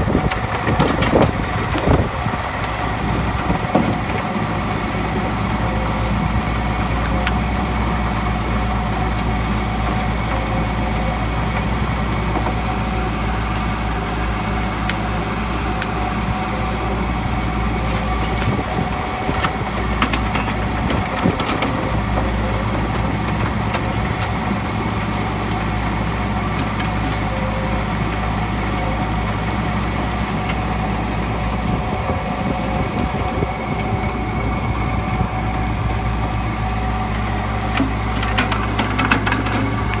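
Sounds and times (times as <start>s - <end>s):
engine drone: 0.0s - 40.0s.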